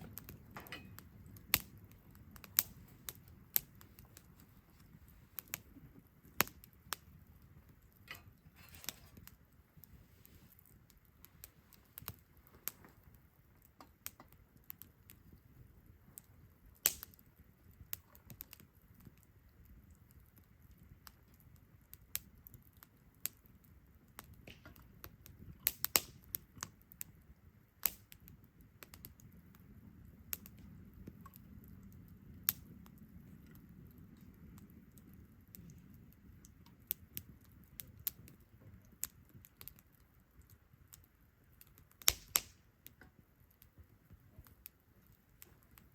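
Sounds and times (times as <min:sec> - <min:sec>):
campfire crackling: 0:00.0 - 0:45.9
fire snapping and popping: 0:00.0 - 0:45.9
low rush of burning: 0:00.0 - 0:45.9.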